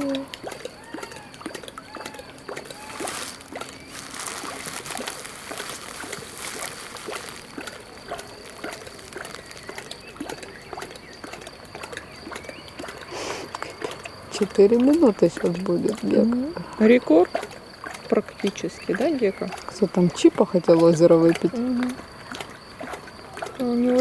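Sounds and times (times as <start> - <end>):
lion lapping water: 0.0 - 24.0.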